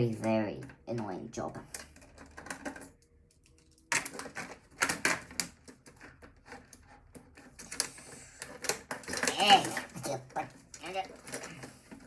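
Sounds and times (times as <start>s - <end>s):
screws and metal parts clattering: 1.8s - 12.0s.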